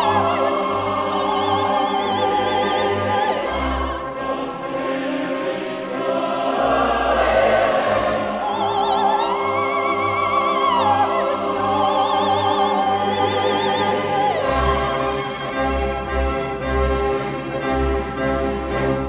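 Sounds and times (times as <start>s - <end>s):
choir and orchestra: 0.0s - 19.0s.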